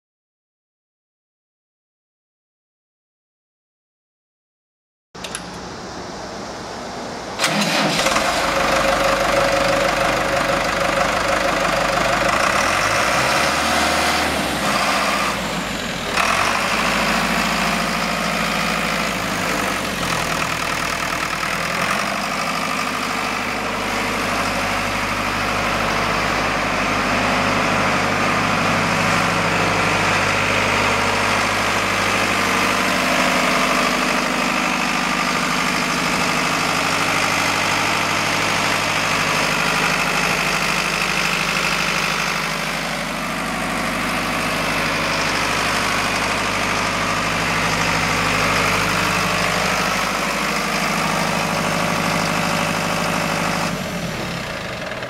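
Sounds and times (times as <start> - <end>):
diesel engine running: 5.2 - 55.0.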